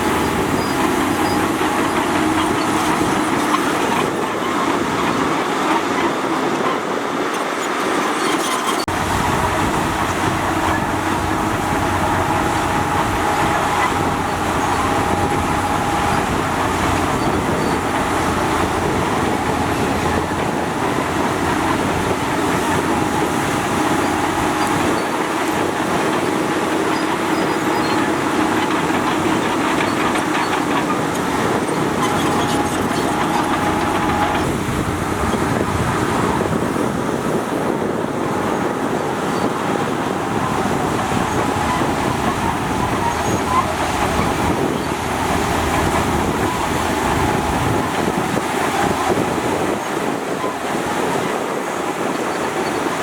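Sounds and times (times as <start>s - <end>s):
heavy diesel machinery rumbling: 0.0s - 53.0s.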